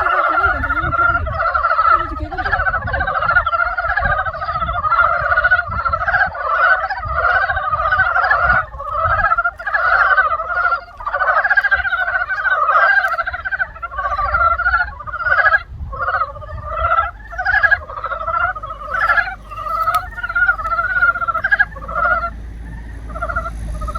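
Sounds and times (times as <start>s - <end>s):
frogs croaking: 0.0s - 23.9s.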